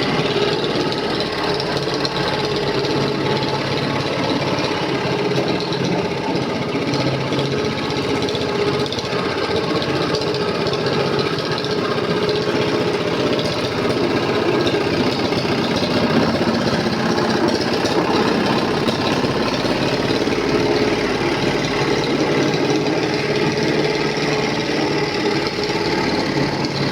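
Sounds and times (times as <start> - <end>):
vibratory roller compactor running: 0.0 - 26.9.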